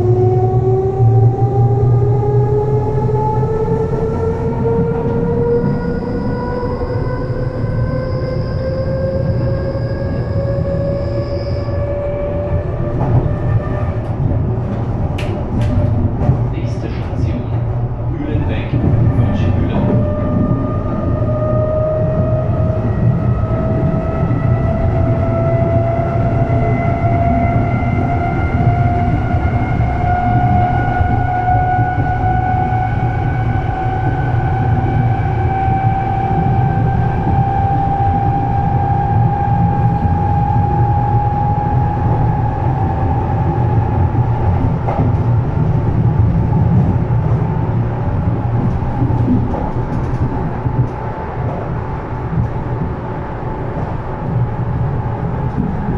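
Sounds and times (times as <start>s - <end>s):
electric train drive whine: 0.0s - 55.9s
train running gear rumble: 0.0s - 55.9s.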